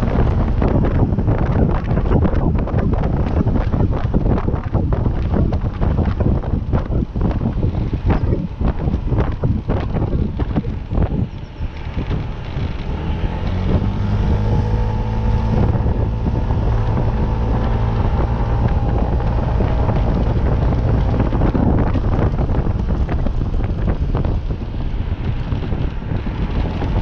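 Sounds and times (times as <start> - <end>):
vehicle engine running: 0.0 - 27.0
wind buffeting microphone: 0.0 - 27.0.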